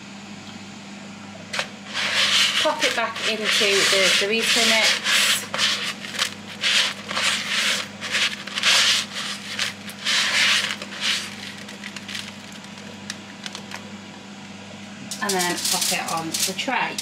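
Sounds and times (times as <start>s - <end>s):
chip crumbs crunching and rustling: 1.6s - 13.9s, 15.2s - 17.0s.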